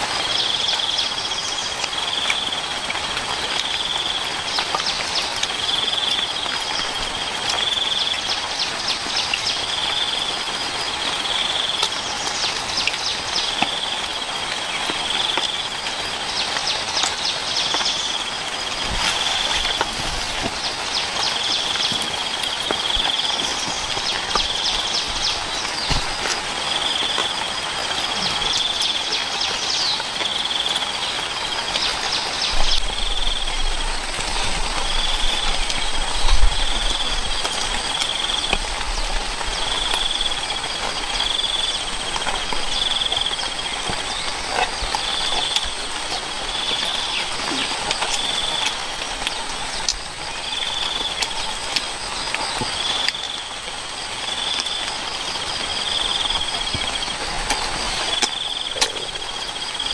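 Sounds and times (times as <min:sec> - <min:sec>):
insects calling: 0:00.0 - 0:59.9
steady hiss: 0:00.0 - 0:59.9.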